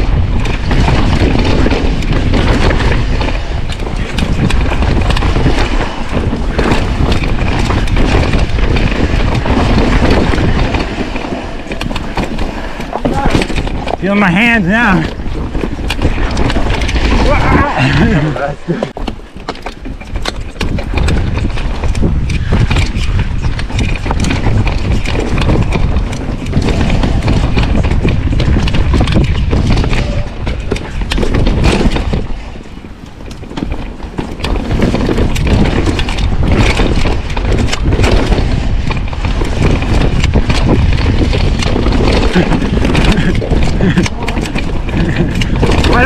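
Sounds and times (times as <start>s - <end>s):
bike clattering over rocks: 0.0s - 46.0s
wind rumbling on microphone: 0.0s - 46.0s.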